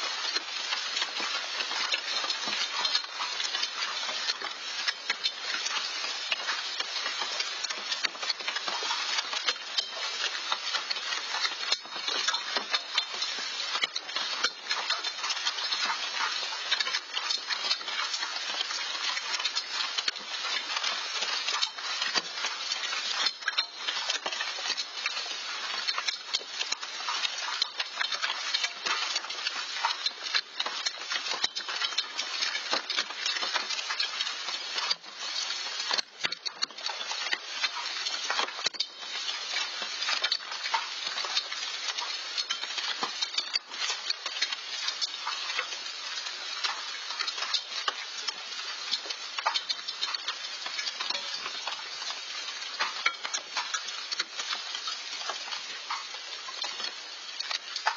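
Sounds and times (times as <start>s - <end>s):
hailstones pelting down: 0.0s - 57.9s.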